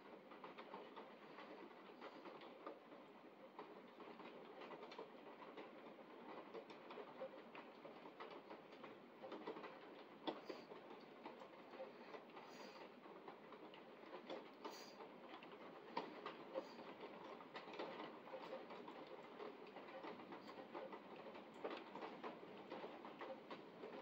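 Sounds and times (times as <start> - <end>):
rain on window glass: 0.0 - 24.0.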